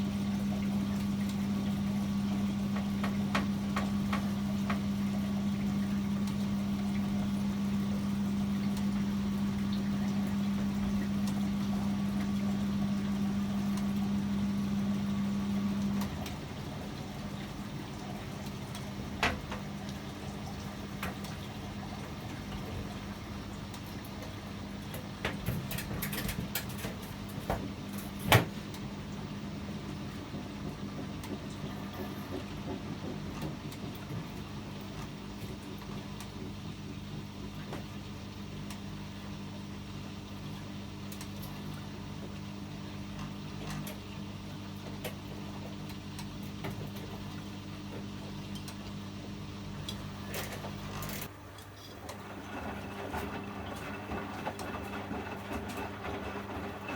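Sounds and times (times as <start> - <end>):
washing machine humming: 0.0 - 56.9.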